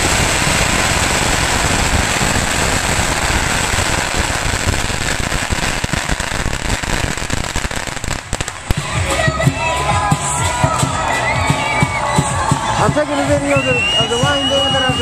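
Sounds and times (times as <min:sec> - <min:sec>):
firecrackers crackling and banging: 0:00.0 - 0:15.0.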